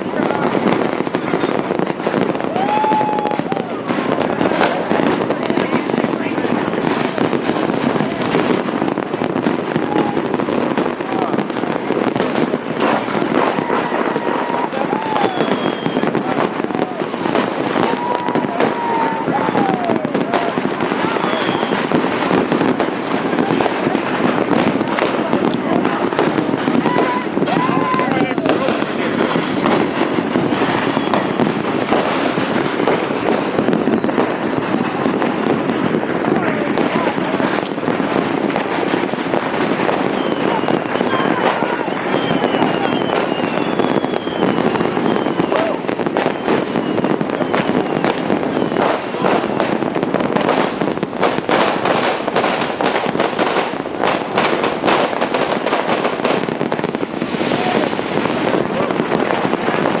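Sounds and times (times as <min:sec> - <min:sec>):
fireworks crackling and popping: 0:00.0 - 1:00.0
falling firework whistle: 0:00.2 - 0:05.6, 0:09.6 - 0:22.9, 0:23.6 - 1:00.0.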